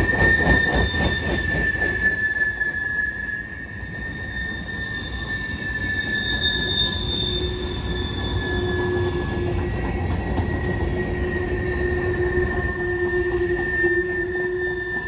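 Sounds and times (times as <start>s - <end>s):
freight train rolling past: 0.0s - 15.0s
train wheel squeal: 0.0s - 15.0s.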